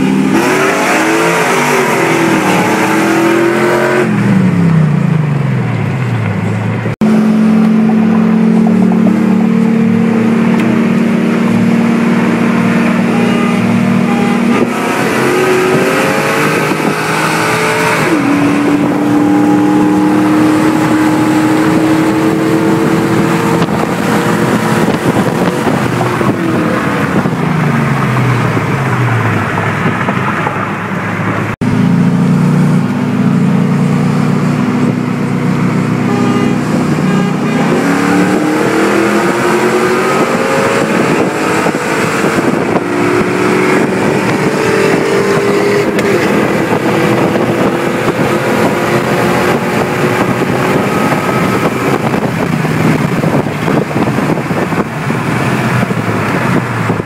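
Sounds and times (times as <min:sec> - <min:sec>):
car engine from inside cabin: 0:00.0 - 0:28.7, 0:31.5 - 0:57.0
road noise: 0:00.0 - 0:57.0
wind noise: 0:07.0 - 0:31.6, 0:32.2 - 0:57.0.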